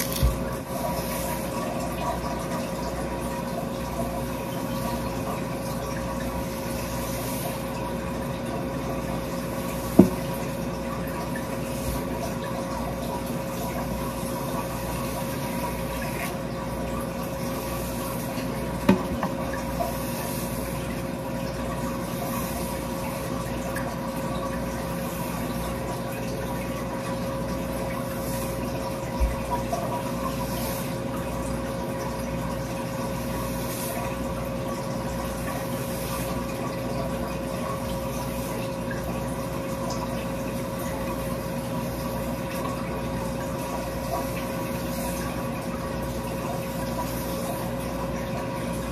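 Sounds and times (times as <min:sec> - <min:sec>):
constant hum: 0:00.0 - 0:48.9
running water: 0:00.0 - 0:48.9.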